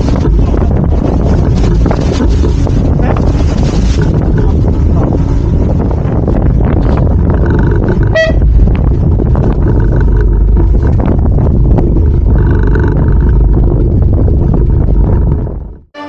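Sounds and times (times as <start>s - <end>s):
boat engine running: 0.0s - 16.0s
wind on microphone: 0.0s - 16.0s.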